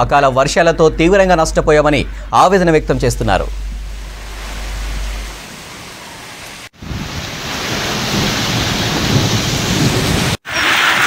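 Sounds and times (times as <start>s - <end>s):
heavy rain pouring: 2.1s - 11.0s.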